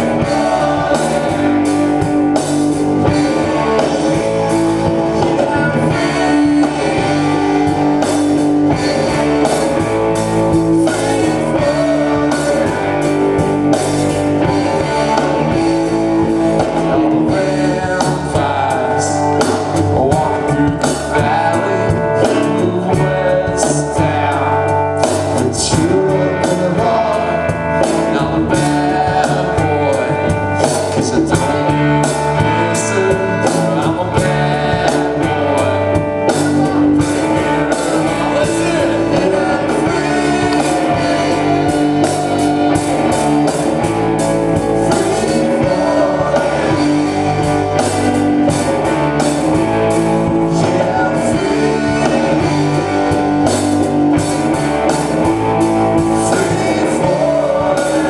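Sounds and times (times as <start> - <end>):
live band playing with singing: 0.0 - 58.0.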